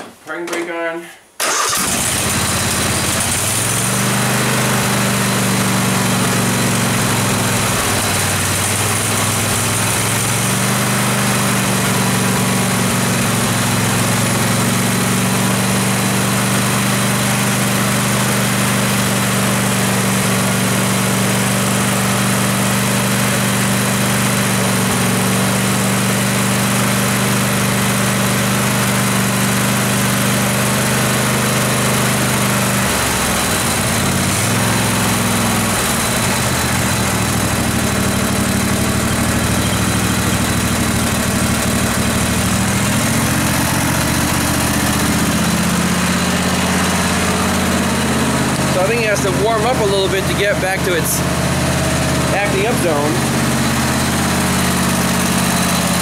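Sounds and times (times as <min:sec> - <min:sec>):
lawn tractor engine idling: 0:01.4 - 0:56.0.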